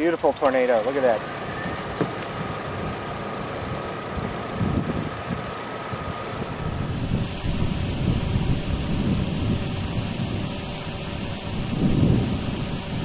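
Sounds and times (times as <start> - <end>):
gusty wind on microphone: 1.4 - 13.0.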